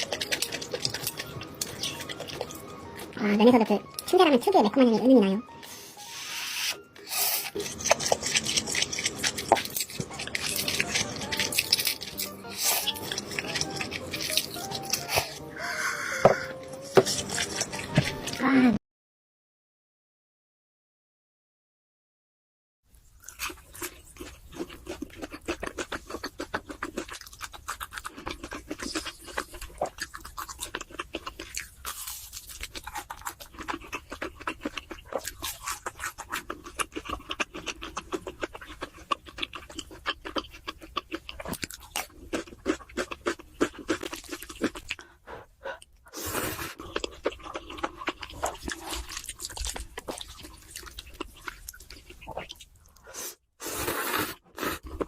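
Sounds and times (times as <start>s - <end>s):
person chewing crunchy food: 0.0s - 3.2s, 5.4s - 18.4s, 23.0s - 55.0s.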